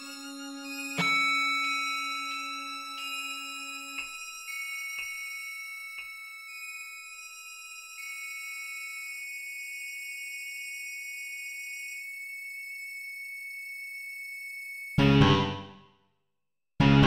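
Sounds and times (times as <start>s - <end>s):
high held tones: 0.0s - 15.8s.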